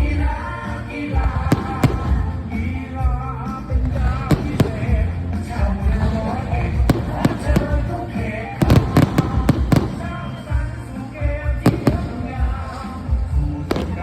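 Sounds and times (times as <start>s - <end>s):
loud music with steady beat: 0.0s - 14.0s
fireworks banging: 1.2s - 14.0s.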